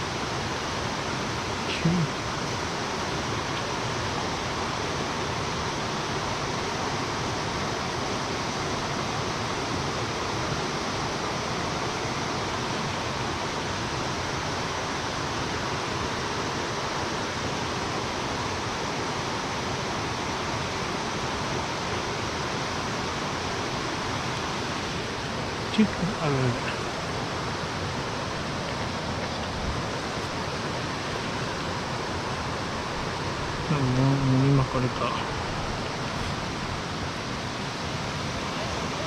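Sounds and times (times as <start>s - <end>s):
stream water rushing: 0.0s - 39.0s.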